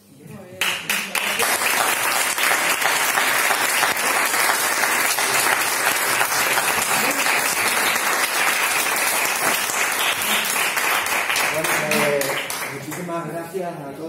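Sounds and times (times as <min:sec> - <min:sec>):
group of people clapping: 0:00.6 - 0:13.2.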